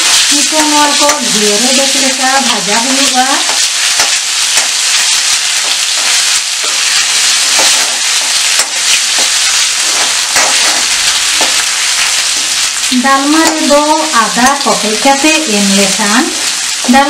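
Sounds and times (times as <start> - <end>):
spices sizzling in oil: 0.0 - 17.0.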